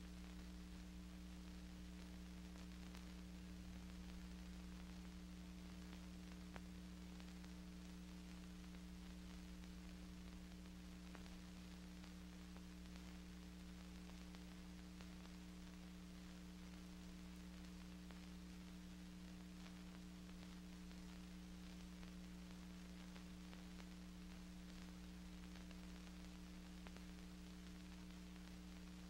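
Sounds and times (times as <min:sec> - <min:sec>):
faint hiss: 0:00.0 - 0:29.0
low electrical hum: 0:00.0 - 0:29.0.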